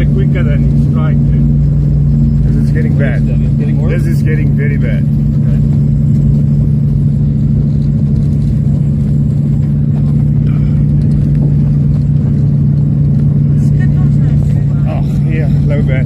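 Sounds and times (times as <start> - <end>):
aircraft engine drone: 0.0 - 16.0.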